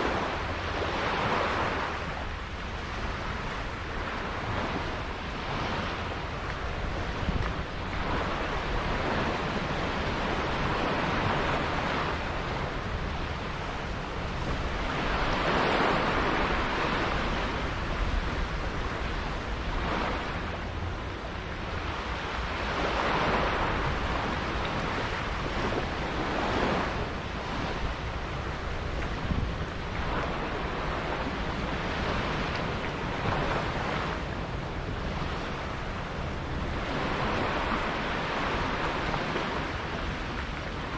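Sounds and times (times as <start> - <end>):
water rushing in waves: 0.0 - 40.9
wind buffeting microphone: 0.0 - 40.9.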